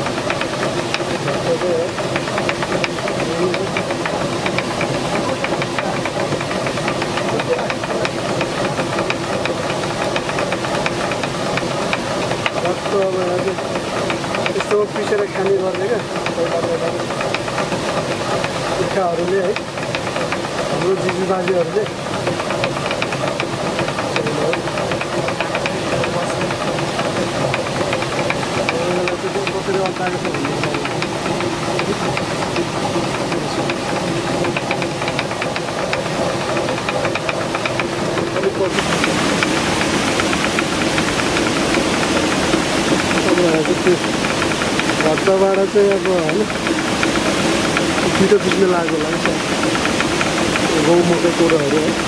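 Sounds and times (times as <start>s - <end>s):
millstone grinding: 0.0s - 52.0s
grain feeder rattling clicks: 0.2s - 52.0s.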